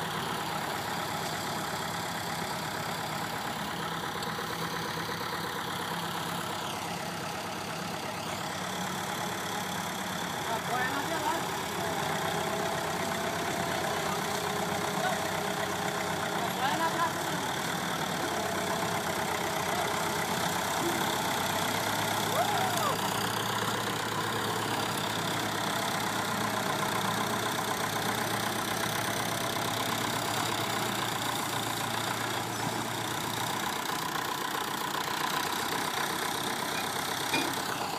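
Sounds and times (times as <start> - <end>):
heavy vehicle engine running: 0.0 - 37.9.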